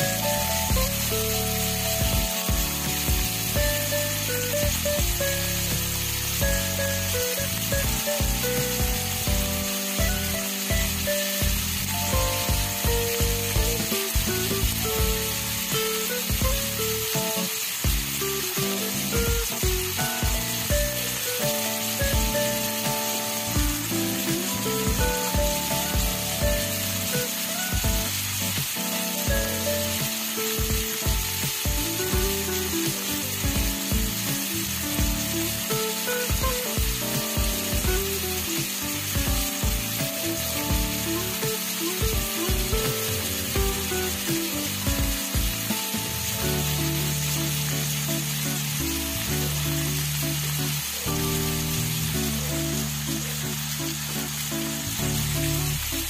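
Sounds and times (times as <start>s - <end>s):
background music with beat: 0.0s - 56.0s
food sizzling in a wok: 0.0s - 56.0s.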